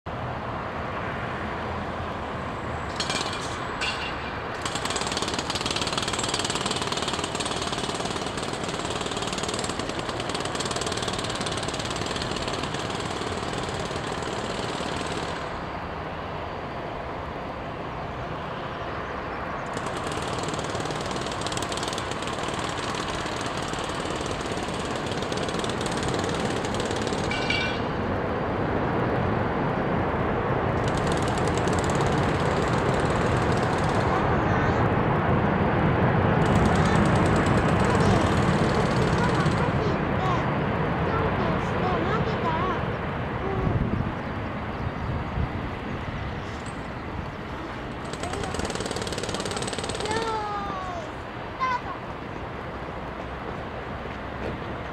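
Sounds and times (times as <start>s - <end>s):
distant jet engines roaring: 0.1s - 54.9s.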